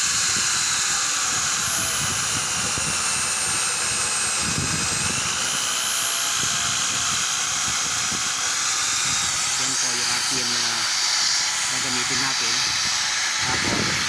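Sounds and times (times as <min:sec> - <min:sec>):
drill motor whine: 0:00.0 - 0:14.0.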